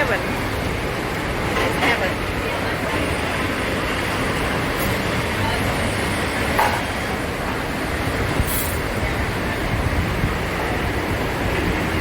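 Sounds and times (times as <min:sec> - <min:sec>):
sea: 0:00.0 - 0:12.0
wind: 0:00.0 - 0:12.0.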